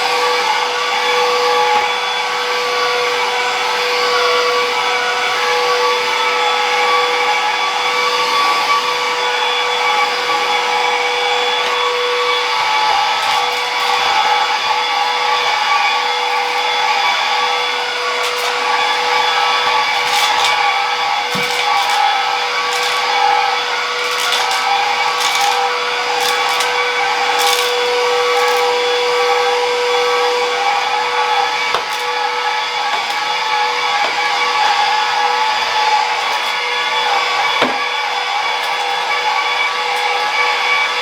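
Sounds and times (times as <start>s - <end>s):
vacuum cleaner motor whine: 0.0s - 41.0s.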